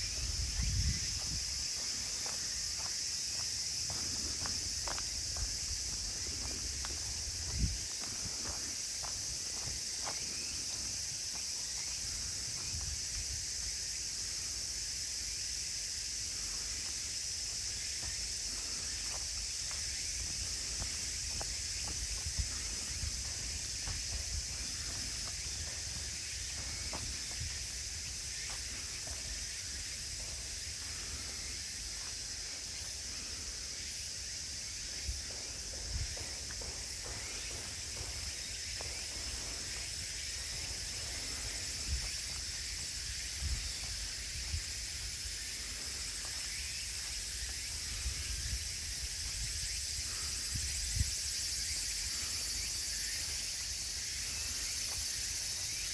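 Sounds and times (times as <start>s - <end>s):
faint footsteps on trail: 0.0s - 55.9s
insects chirring: 0.0s - 55.9s.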